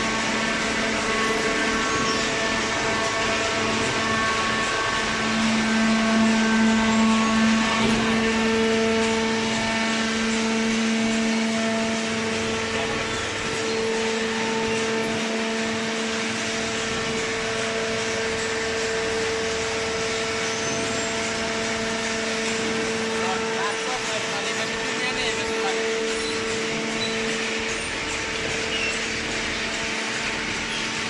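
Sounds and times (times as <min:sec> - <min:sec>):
electric motor and pump humming: 0:00.0 - 0:31.0.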